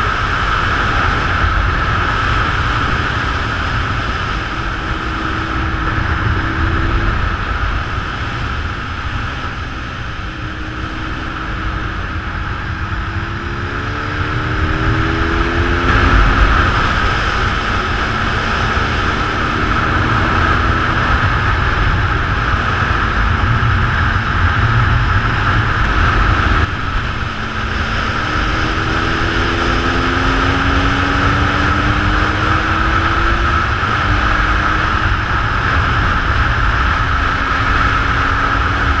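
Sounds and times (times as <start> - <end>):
motorcycle engine running: 0.0 - 39.0
road noise: 0.0 - 39.0
wind rush: 0.0 - 39.0.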